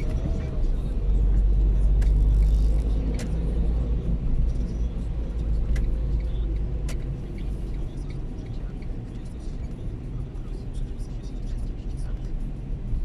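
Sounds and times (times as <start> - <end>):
road rumble of vehicle in rain: 0.0 - 13.0.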